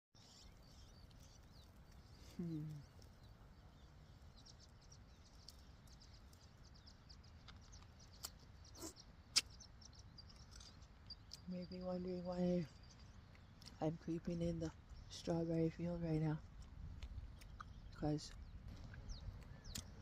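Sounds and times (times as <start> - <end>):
faint high bird chirps: 0.2 - 16.2.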